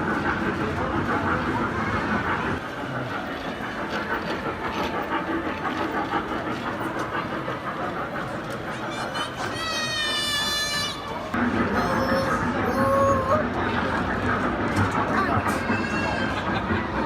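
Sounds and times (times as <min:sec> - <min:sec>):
ride-on train clattering: 0:00.0 - 0:17.0.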